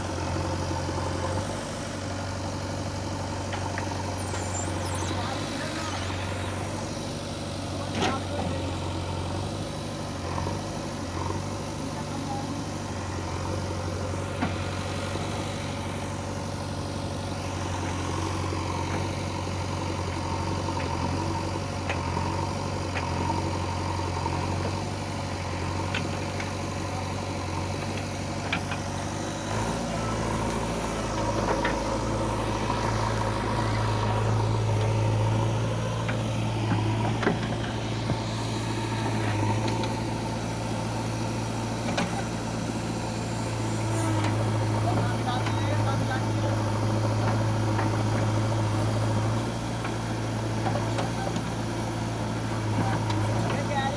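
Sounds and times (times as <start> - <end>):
diesel backhoe engine running: 0.0 - 53.9.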